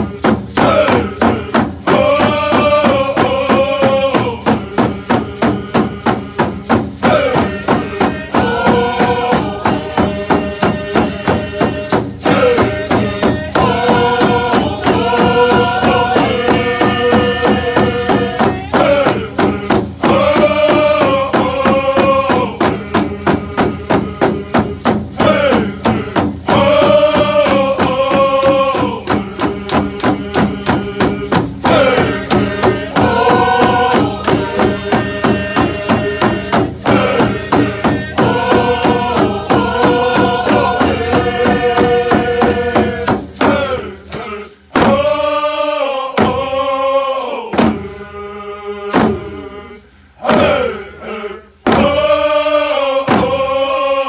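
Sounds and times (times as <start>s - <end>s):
frame drums beating: 0.0s - 46.8s, 47.5s - 48.2s, 48.9s - 51.0s, 51.6s - 53.8s
men singing in unison: 0.0s - 54.0s.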